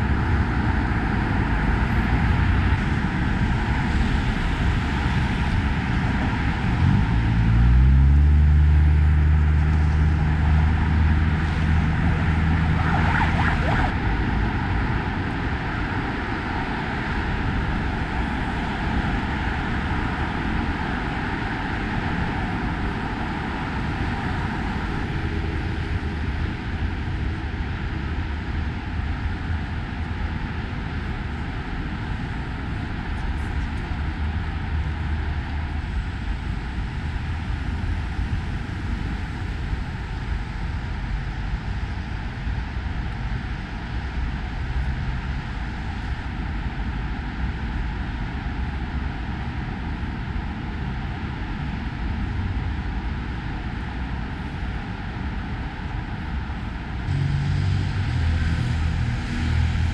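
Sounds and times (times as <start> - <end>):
heavy vehicle engine drone: 0.0 - 59.9
passing cars and tyre noise: 0.0 - 59.9.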